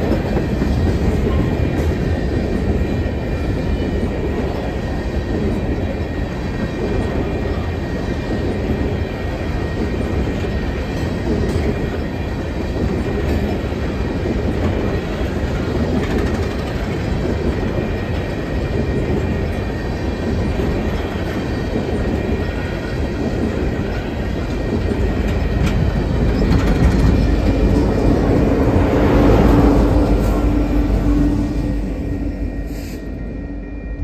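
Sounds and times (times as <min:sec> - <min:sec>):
train wheels clattering on rails: 0:00.0 - 0:31.8
diesel locomotive engine hum: 0:00.0 - 0:34.0.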